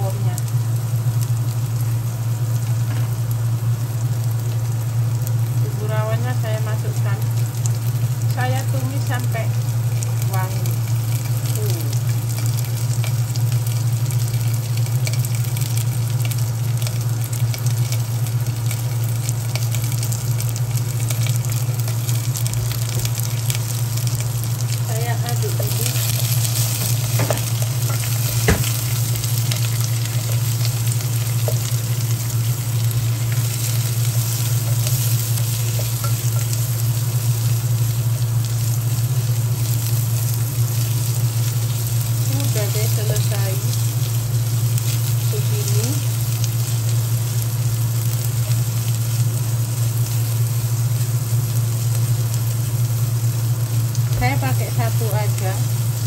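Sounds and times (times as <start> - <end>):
spice paste sizzling in oil: 0.0 - 56.0
steady low hum: 0.0 - 56.0.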